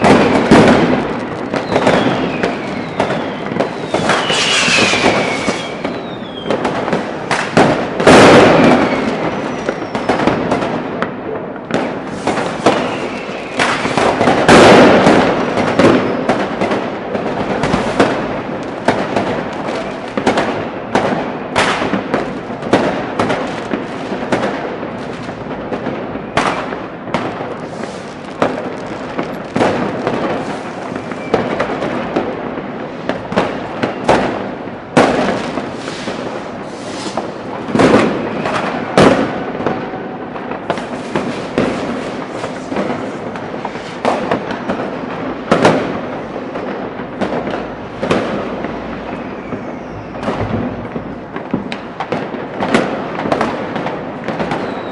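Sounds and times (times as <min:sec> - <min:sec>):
whistling rockets: 0:00.0 - 0:10.8, 0:11.6 - 0:54.9
firecracker cracks and bangs: 0:00.0 - 0:54.9
heavy firework booms: 0:00.0 - 0:54.9.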